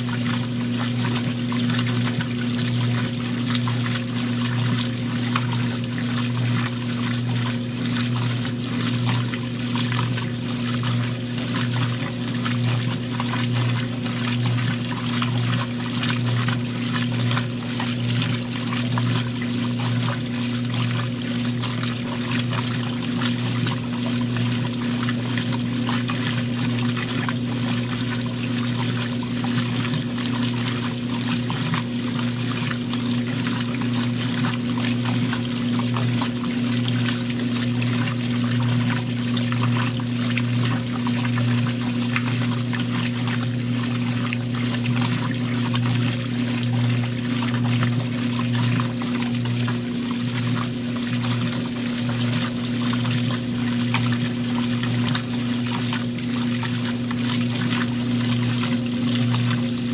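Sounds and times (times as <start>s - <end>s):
low electrical hum: 0.0s - 59.9s
water pouring into tub: 0.0s - 59.9s.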